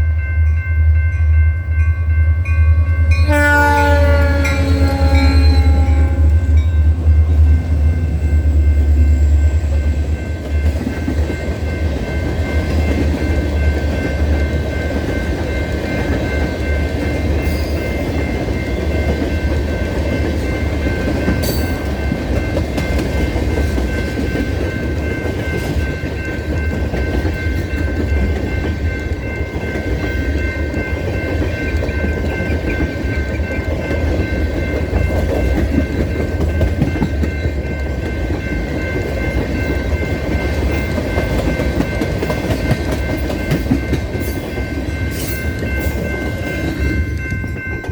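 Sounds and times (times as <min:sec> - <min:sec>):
wheels clattering on rails: 0:07.0 - 0:47.9.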